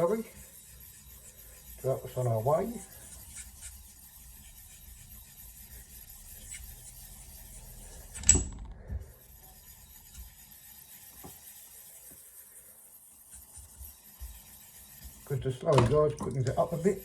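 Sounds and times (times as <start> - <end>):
stone rubbing on wet whetstone: 0.0 - 8.2, 9.2 - 17.0.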